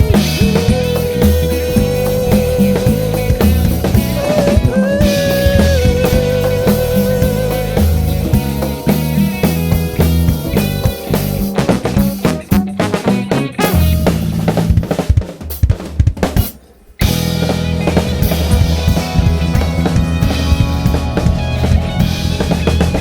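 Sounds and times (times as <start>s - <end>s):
samba-funk band music: 0.0s - 23.0s.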